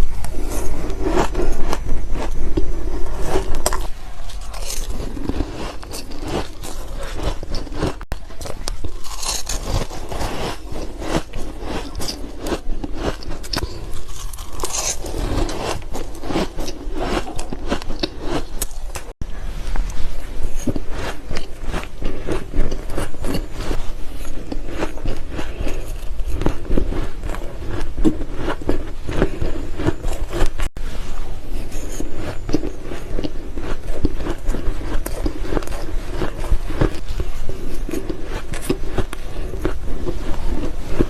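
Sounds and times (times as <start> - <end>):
ice being chewed: 0.0 - 19.2, 19.8 - 30.7, 31.5 - 41.0.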